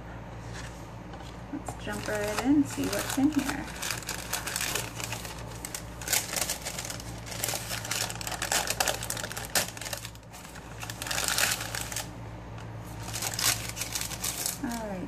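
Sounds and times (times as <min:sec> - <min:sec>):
tissue paper rustling and crinkling: 0:01.8 - 0:12.1, 0:12.8 - 0:15.0.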